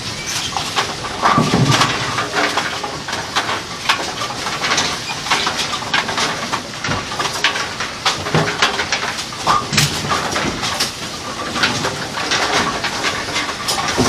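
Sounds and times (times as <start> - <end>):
cleaning machine churning: 0.0 - 14.0.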